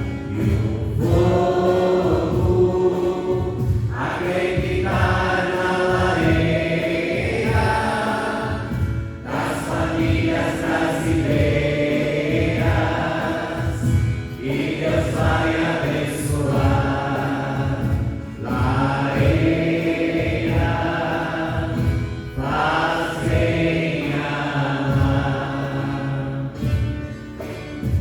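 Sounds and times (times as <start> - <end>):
choir singing worship song: 0.0 - 28.0
instrumental accompaniment with beat: 0.0 - 28.0.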